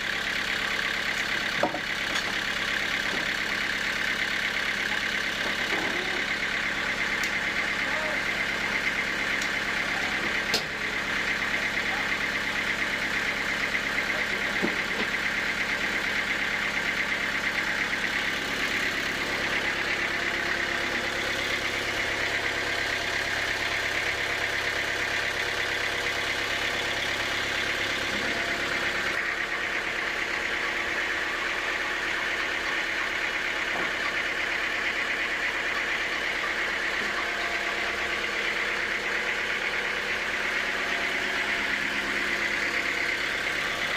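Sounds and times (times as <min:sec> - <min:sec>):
sawmill machinery drone: 0:00.0 - 0:43.9.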